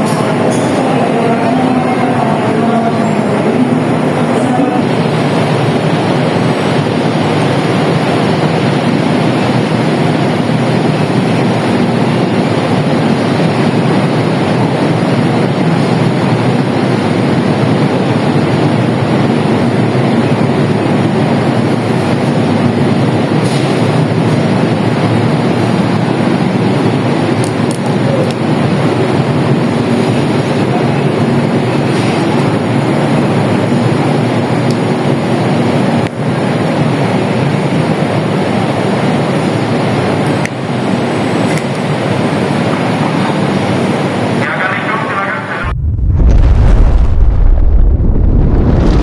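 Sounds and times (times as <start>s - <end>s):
train wheels rumbling on rails: 0.0s - 44.4s.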